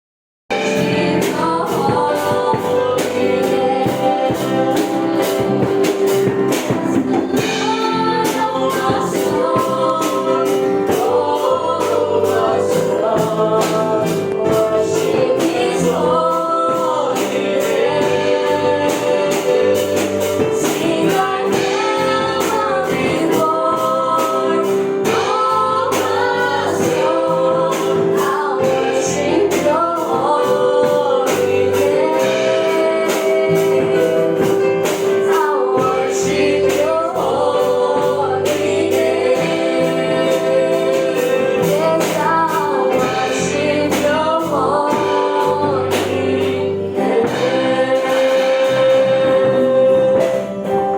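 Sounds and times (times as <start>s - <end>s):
gospel singing voices: 0.5s - 50.9s
regular beat: 0.5s - 50.9s.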